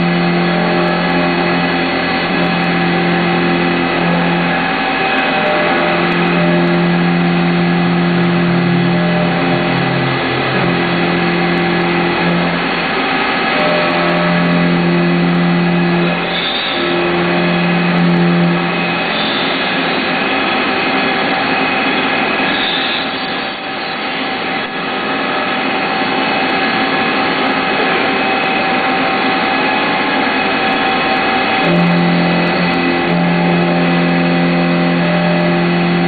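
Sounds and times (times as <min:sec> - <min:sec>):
strong low hum: 0:00.0 - 0:22.4, 0:26.1 - 0:36.0
metal cutting noise: 0:00.0 - 0:36.0
milling machine whine: 0:00.0 - 0:36.0.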